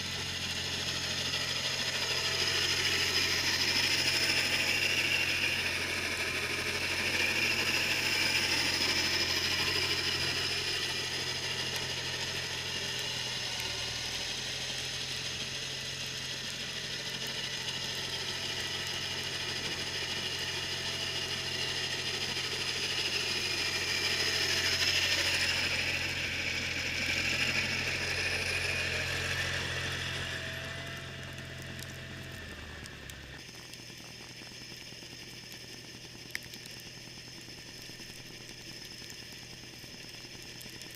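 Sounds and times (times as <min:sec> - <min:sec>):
snowblower rattling and whirring: 0:00.0 - 0:40.9
tractor engine drone: 0:00.0 - 0:40.9.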